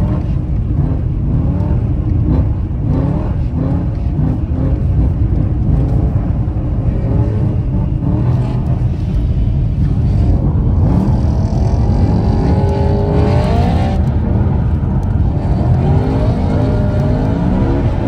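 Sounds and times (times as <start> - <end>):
car engine revving: 0.0 - 18.0
low rumble of tyres on ice: 0.0 - 18.0.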